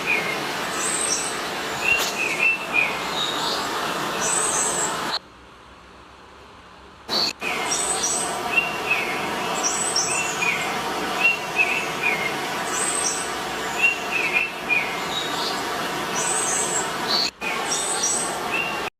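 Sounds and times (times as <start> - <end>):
small birds chirping: 0.0 - 5.2, 7.1 - 18.9
loud steady rushing noise: 0.0 - 5.3, 7.0 - 18.9.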